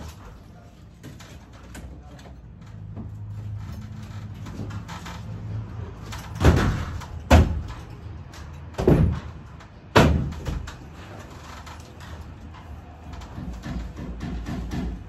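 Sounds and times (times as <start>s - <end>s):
sheet-metal ductwork banging: 0.0s - 15.0s.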